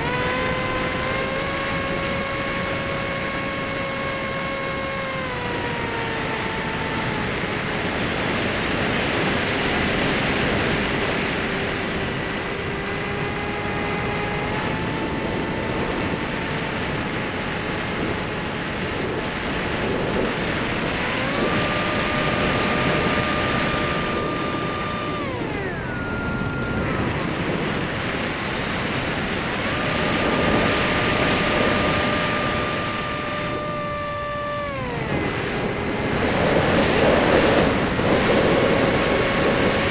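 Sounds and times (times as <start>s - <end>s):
electric motor and propeller whining: 0.0s - 39.9s
wind rush: 0.0s - 39.9s.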